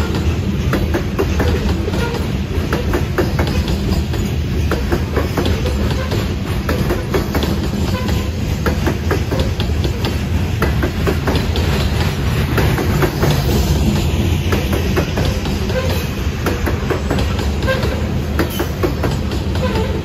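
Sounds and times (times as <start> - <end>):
freight train rolling past: 0.0 - 20.0.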